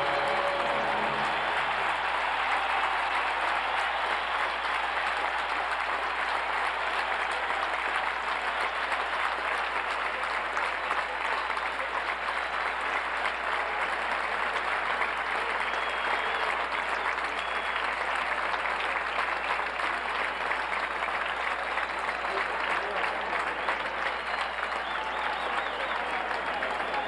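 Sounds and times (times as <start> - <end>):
stadium crowd applauding: 0.0 - 27.0.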